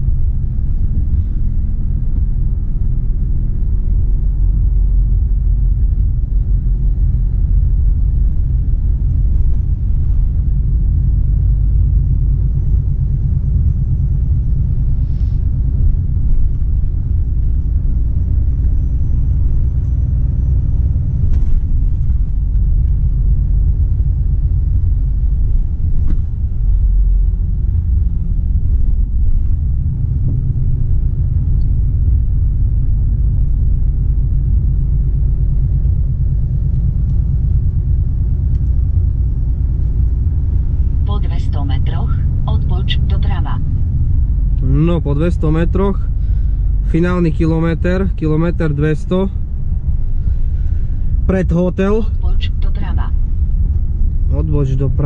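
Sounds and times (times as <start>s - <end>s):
diesel truck engine rumble: 0.0s - 55.0s
road noise: 0.0s - 55.0s.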